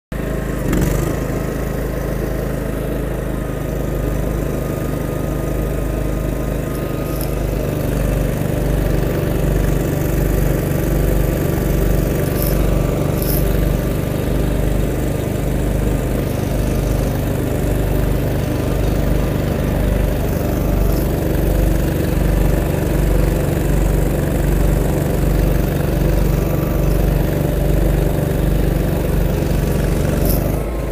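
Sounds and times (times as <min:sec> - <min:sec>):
loader engine running under load: 0:00.2 - 0:30.9
snowblower throwing snow: 0:04.0 - 0:30.9.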